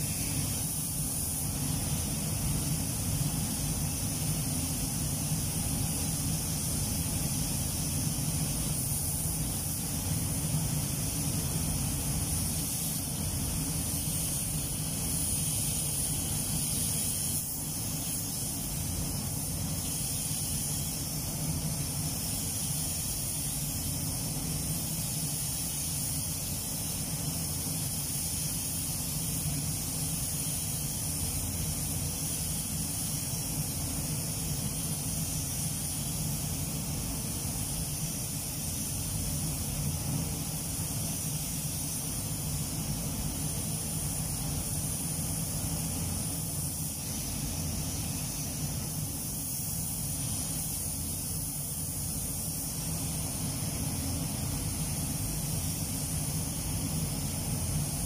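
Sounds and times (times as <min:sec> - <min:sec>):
spray gun hissing: 0:00.0 - 0:58.0.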